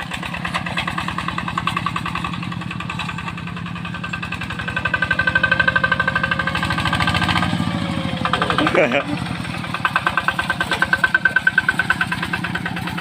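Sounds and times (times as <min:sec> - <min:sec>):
tractor engine chugging: 0:00.0 - 0:13.0.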